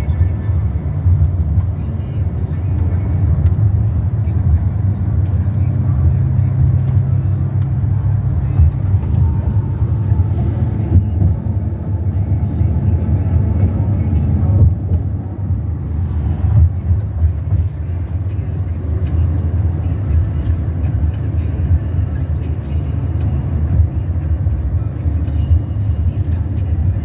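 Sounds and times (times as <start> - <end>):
car interior road and engine rumble: 0.0 - 27.0.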